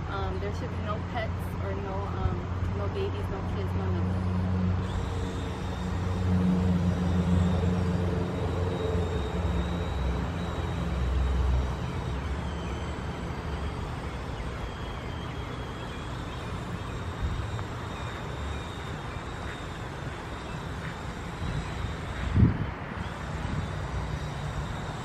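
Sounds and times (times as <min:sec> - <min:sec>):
outdoor rumble and hiss: 0:00.0 - 0:25.0.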